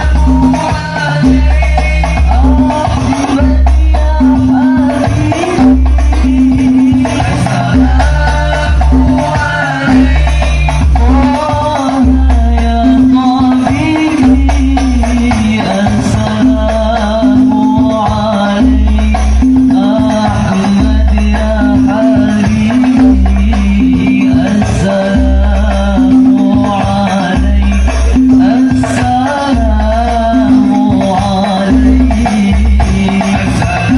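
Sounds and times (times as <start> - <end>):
frame drum percussion: 0.0 - 33.9.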